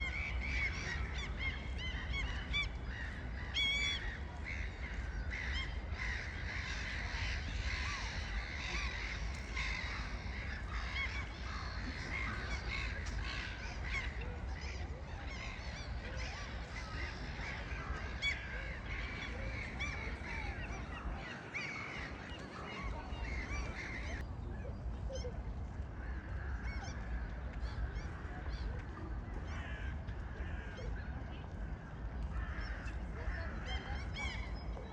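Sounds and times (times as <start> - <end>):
flock of birds calling: 0.0 - 24.2, 25.0 - 34.9.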